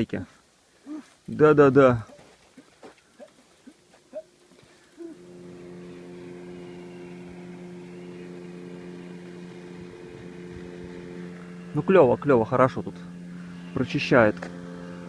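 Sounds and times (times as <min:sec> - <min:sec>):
steady motor hum: 0:00.9 - 0:15.0.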